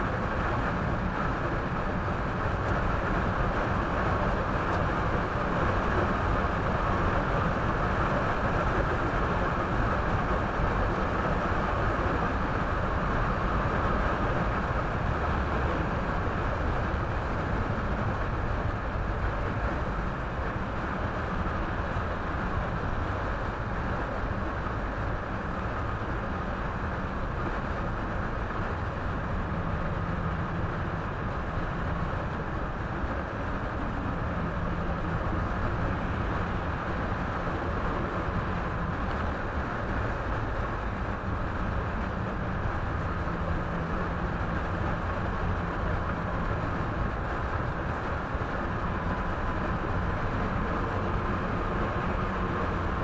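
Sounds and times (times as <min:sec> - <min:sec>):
road and tyre noise: 0:00.0 - 0:53.0.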